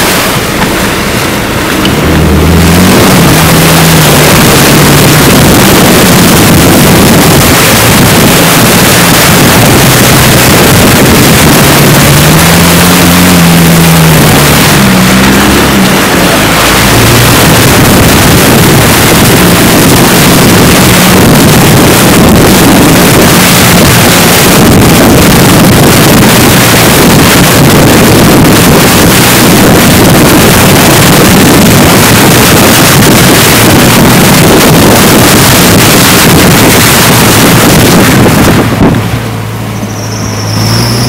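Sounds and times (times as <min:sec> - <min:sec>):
car engine running: 0:00.0 - 0:41.0
water splashing against car: 0:00.0 - 0:41.0
wind buffeting microphone: 0:01.8 - 0:39.6.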